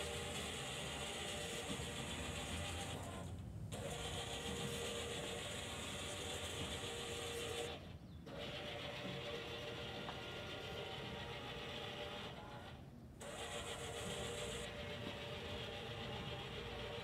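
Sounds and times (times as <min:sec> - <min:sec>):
electric motors whirring: 0:00.0 - 0:17.0.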